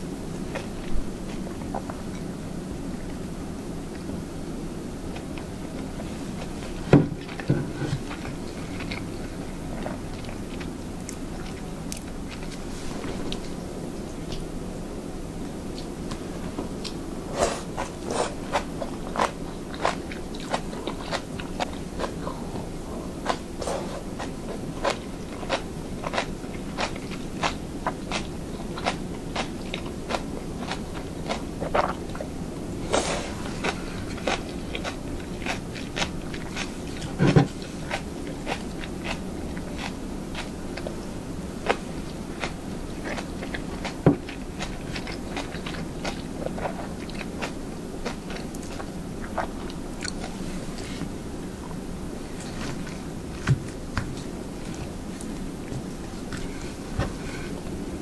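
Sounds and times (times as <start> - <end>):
person chewing noodles: 5.1 - 13.6, 15.7 - 57.7.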